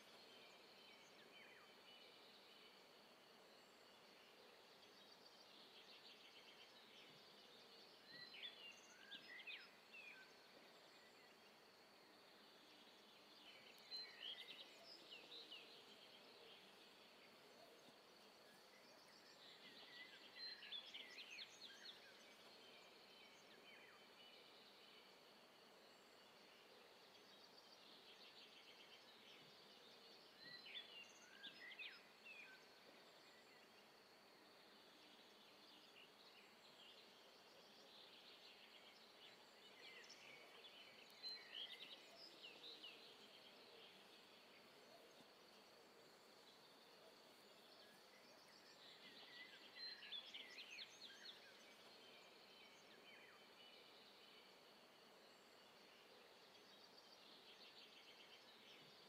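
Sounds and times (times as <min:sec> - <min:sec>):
low outdoor hiss: 0:00.0 - 0:59.0
songbird chirping: 0:00.0 - 0:59.0.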